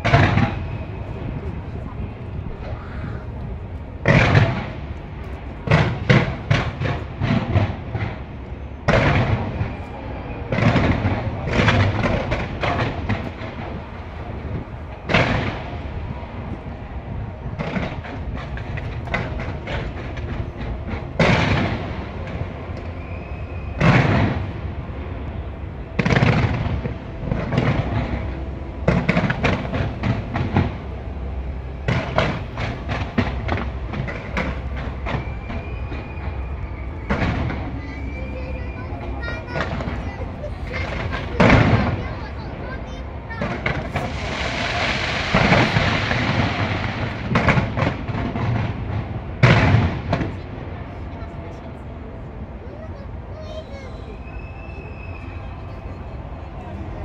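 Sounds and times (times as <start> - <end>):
fireworks bangs and crackling: 0.0 - 51.6
low rumble: 0.0 - 52.6.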